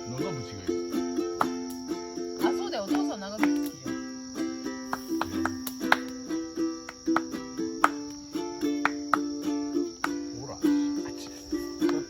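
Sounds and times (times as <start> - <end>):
high insect trill: 0.0 - 12.0
ukulele strumming chords: 0.0 - 12.0.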